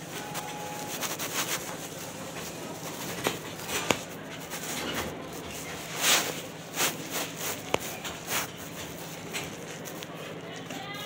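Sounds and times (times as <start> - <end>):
jacket fabric rustling on microphone: 0.4 - 10.1.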